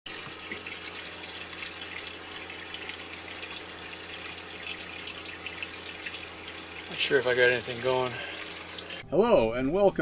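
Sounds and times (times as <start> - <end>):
water running and splashing: 0.1 - 9.0.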